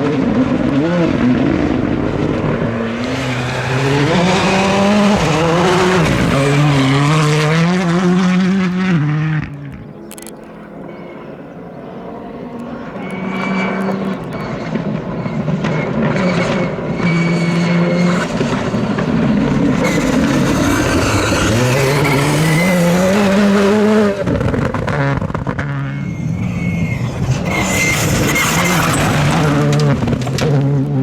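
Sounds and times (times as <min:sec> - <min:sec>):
rally car engine at full throttle: 0:00.0 - 0:31.0.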